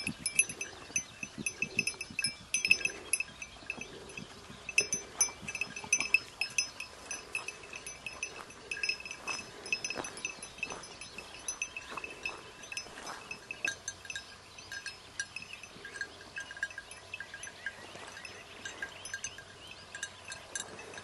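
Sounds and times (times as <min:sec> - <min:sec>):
small bells jingling: 0:00.0 - 0:21.0.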